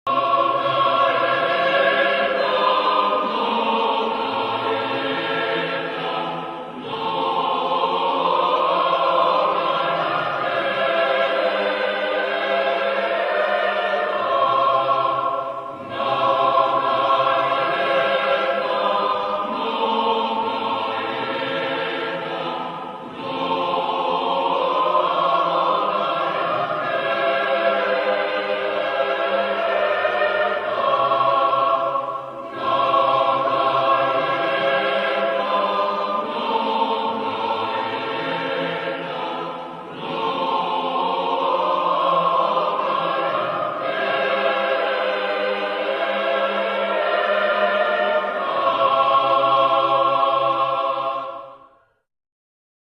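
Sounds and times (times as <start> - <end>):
choir singing held chords: 0.0 - 52.1.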